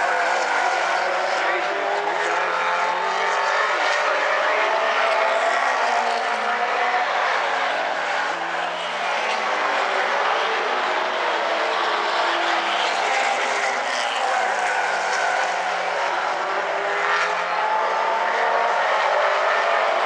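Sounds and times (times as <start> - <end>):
stock car engines racing: 0.0 - 20.0.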